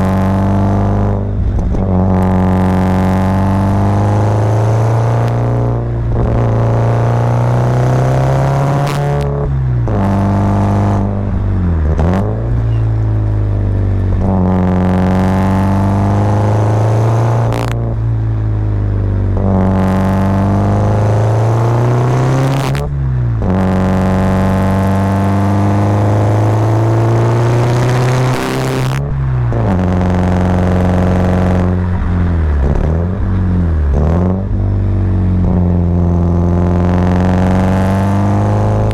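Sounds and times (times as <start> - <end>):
car engine revving under load: 0.0 - 38.9.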